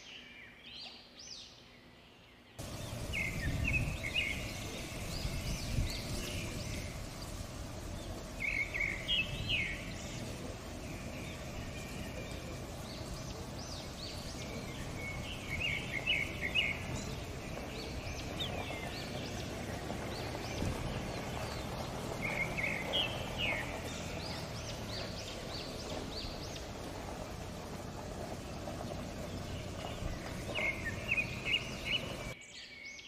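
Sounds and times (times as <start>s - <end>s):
low background hum: 2.6s - 32.4s
birds chattering calls: 2.6s - 33.0s.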